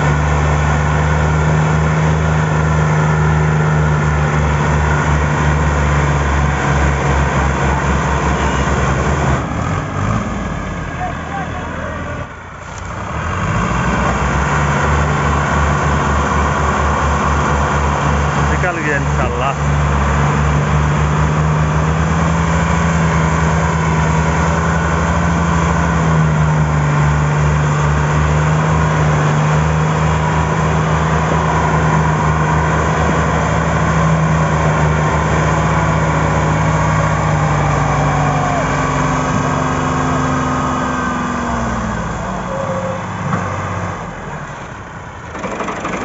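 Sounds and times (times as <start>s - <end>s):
tractor engine revving under load: 0.0s - 46.0s.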